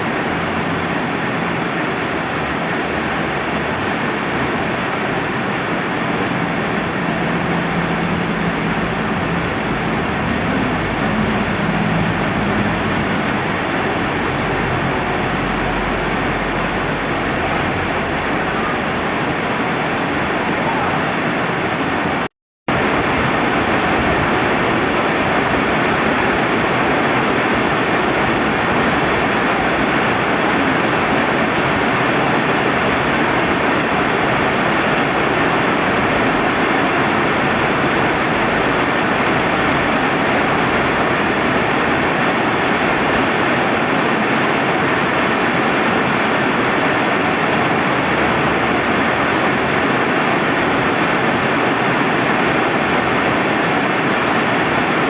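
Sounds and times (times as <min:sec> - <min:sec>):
heavy rain: 0:00.0 - 0:55.0
running water: 0:00.0 - 0:55.0.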